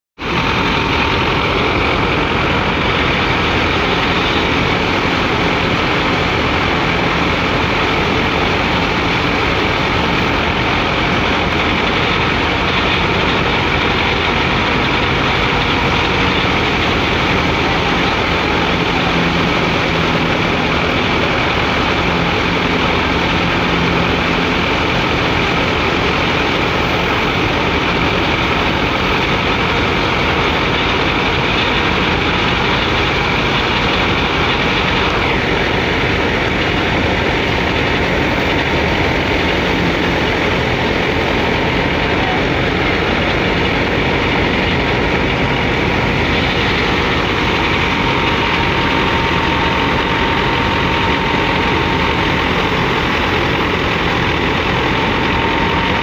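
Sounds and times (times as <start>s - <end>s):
threshing drum spinning: 0.2s - 56.0s
tractor engine: 0.2s - 56.0s.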